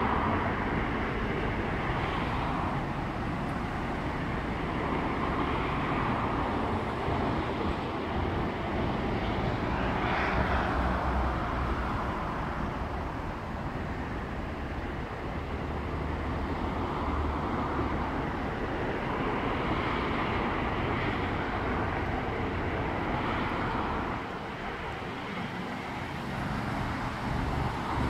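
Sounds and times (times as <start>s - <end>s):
distant diesel locomotive drone: 0.0s - 28.0s.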